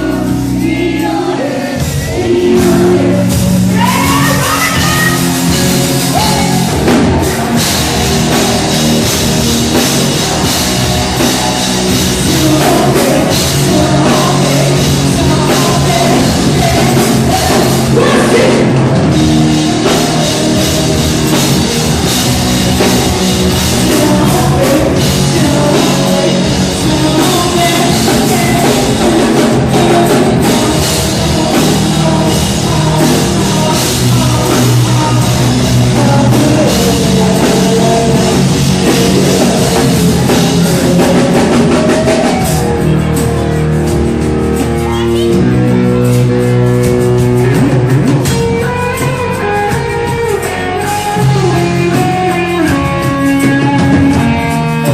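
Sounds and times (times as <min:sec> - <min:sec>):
person singing: 0:00.0 - 0:43.9, 0:44.5 - 0:54.9
drum kit: 0:00.0 - 0:54.9
guitars: 0:00.0 - 0:54.9.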